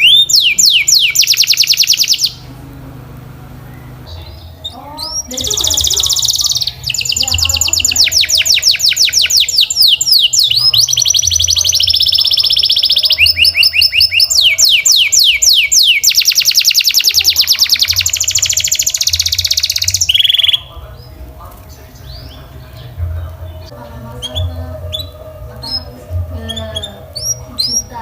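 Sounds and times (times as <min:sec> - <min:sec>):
canary singing trills: 0:00.0 - 0:28.0.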